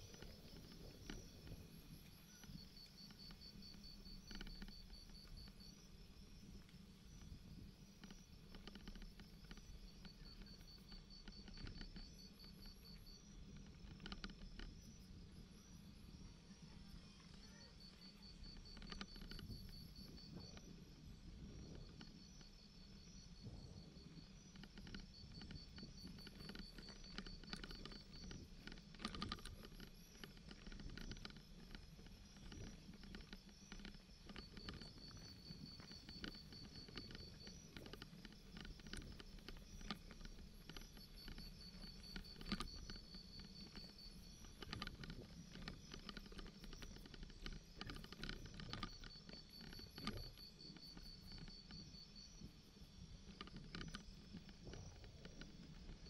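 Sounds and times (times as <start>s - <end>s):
light ticks and rattles: 0.0s - 56.0s.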